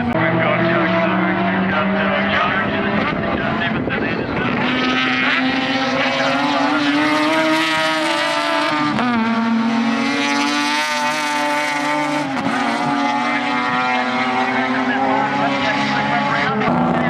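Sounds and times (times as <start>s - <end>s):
race car rotary engines: 0.0s - 17.0s.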